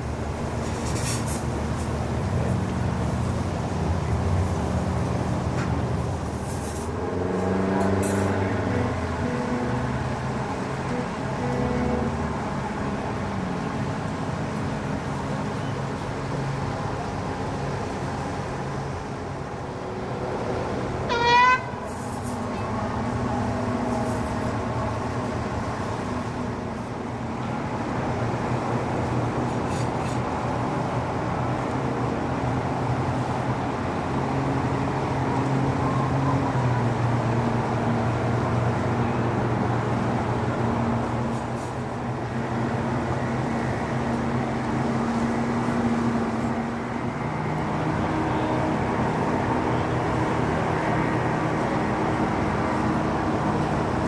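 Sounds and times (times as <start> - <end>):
motorboat engines droning: 0.0 - 54.0.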